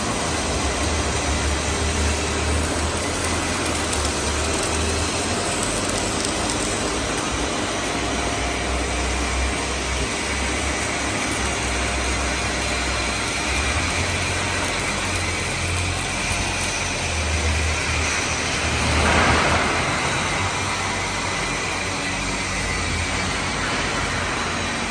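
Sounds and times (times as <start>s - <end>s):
welding machine hissing and humming: 0.0s - 24.9s.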